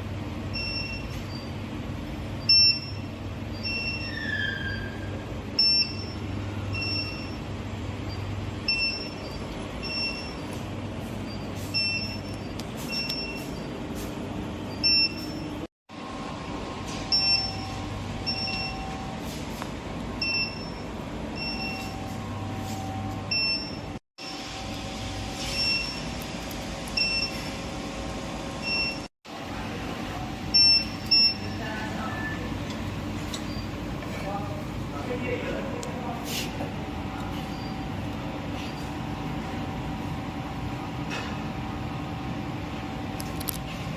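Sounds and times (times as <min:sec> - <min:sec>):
furnace electrical hum: 0:00.0 - 0:43.9.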